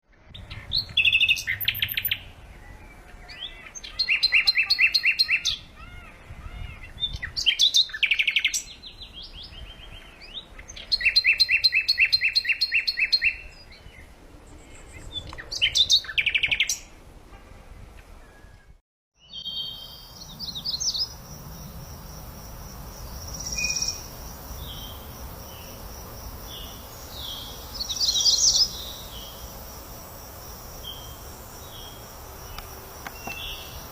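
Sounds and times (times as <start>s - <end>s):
songbirds singing trills: 0.1s - 16.9s, 18.0s - 22.0s, 22.8s - 29.7s, 30.8s - 33.9s.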